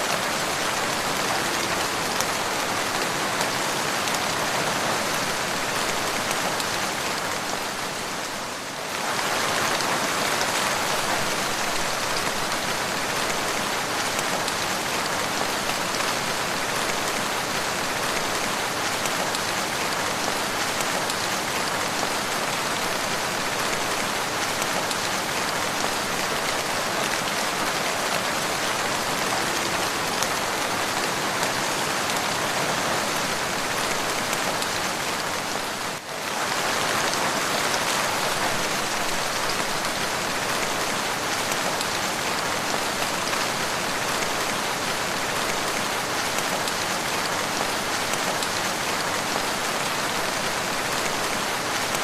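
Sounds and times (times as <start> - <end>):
heavy rainfall hiss: 0.0 - 52.0.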